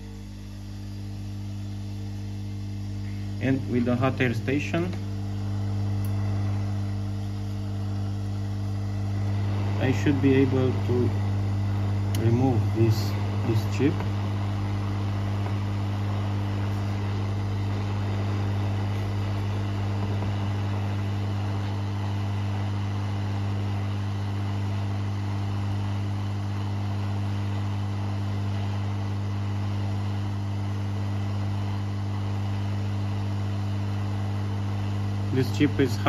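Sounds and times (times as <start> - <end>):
hot air station hum and hiss: 0.0 - 36.0.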